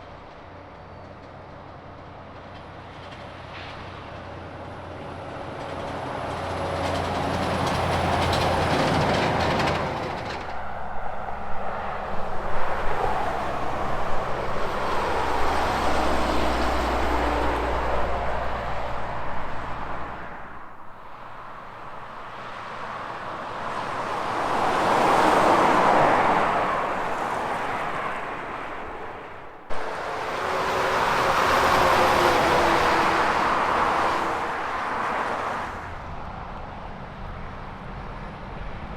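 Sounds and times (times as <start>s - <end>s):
trucks driving past: 0.0s - 38.9s.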